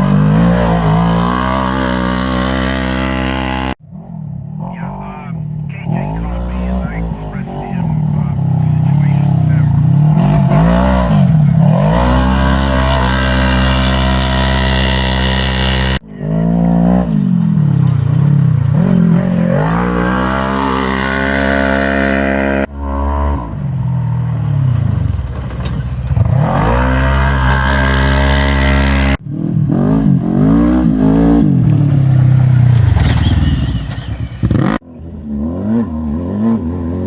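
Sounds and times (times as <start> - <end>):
race vehicle engines revving: 0.0 - 37.0.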